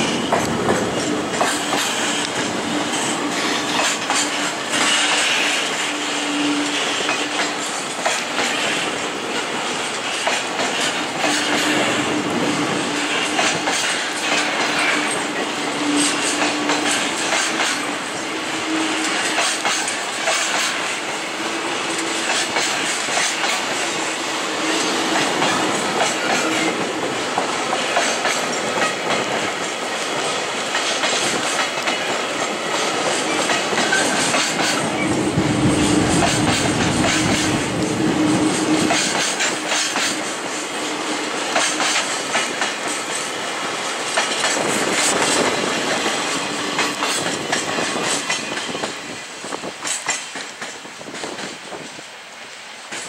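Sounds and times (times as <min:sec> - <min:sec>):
train wheels clacking over rail joints: 0:00.0 - 0:52.2, 0:52.8 - 0:53.0.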